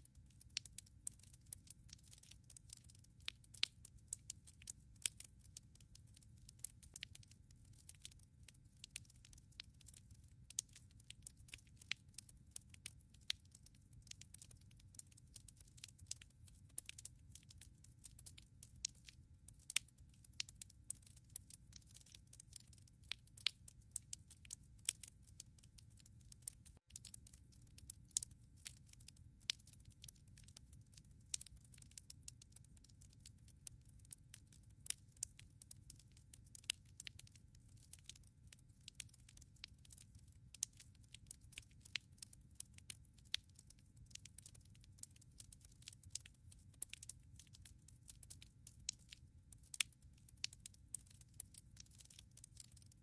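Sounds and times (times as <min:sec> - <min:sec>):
wood fire crackling and popping: 0:00.2 - 0:52.9.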